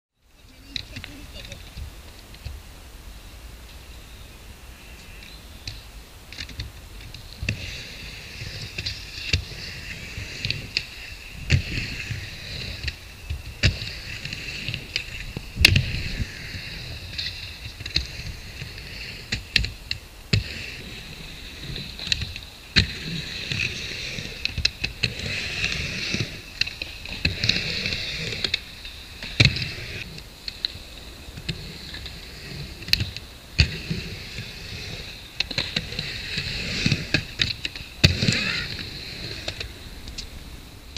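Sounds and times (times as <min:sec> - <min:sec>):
skateboard wheels rumbling: 0:00.3 - 0:40.9.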